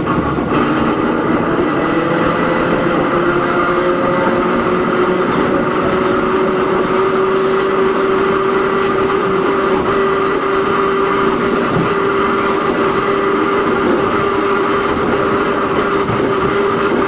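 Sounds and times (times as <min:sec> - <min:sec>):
traction motor whine: 0:00.0 - 0:17.0
wheels rumbling on rail: 0:00.0 - 0:17.0.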